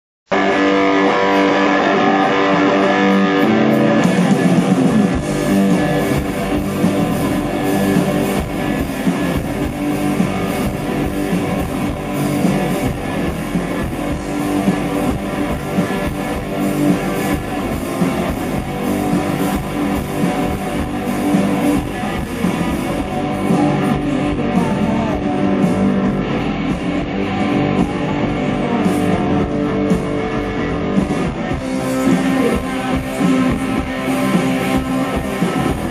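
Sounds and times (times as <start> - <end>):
bass guitar: 0.3 - 35.9
distorted electric guitars: 0.3 - 35.9
drums and cymbal hits: 0.3 - 35.9.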